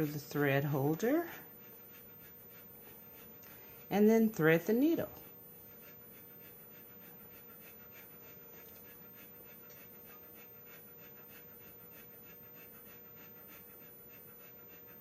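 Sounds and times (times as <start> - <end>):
faint rhythmic panting: 0.0 - 15.0
low electrical hum: 0.0 - 15.0.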